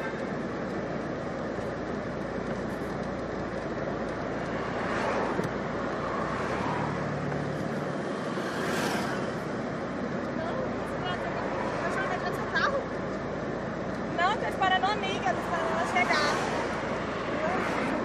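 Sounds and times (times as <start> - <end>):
road hum: 0.0 - 18.0
vehicles passing: 0.0 - 18.0.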